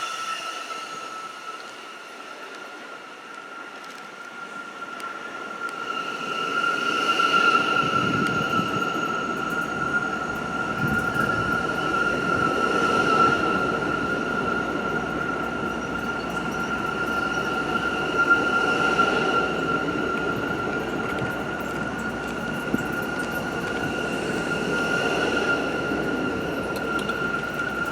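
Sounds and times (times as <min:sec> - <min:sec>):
rumble of train cars: 0:00.0 - 0:27.9
train wheel squeal: 0:00.0 - 0:27.9.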